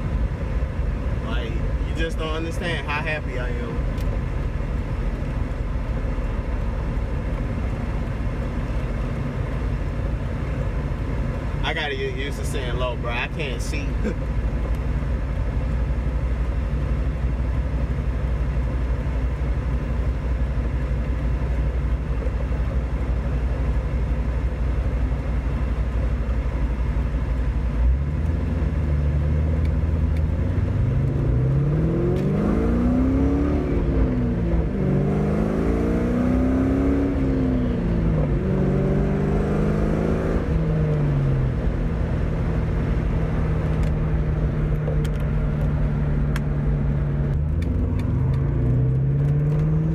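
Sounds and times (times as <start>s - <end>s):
car engine exhaust drone: 0.0s - 49.9s.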